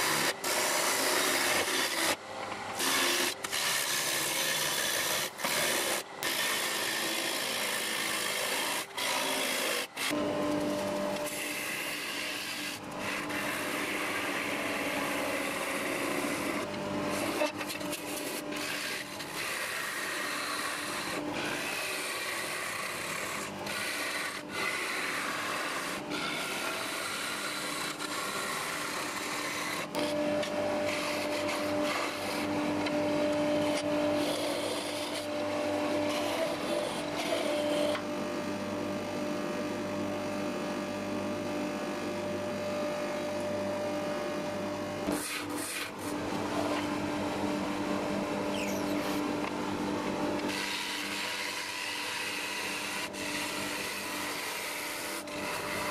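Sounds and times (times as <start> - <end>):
gouge scraping spinning wood: 0.0 - 38.1, 45.0 - 47.0, 48.5 - 49.5, 50.4 - 55.9
wood lathe motor hum: 0.0 - 55.9.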